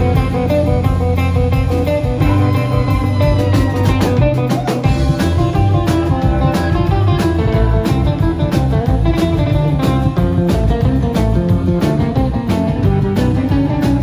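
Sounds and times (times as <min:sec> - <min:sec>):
double bass line: 0:00.0 - 0:14.0
drum kit beat: 0:00.0 - 0:14.0
electric guitars: 0:00.0 - 0:14.0.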